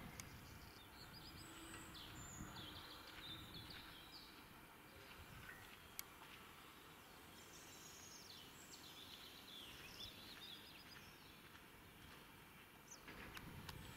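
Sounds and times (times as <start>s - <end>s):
outdoor background hiss: 0.0s - 13.9s.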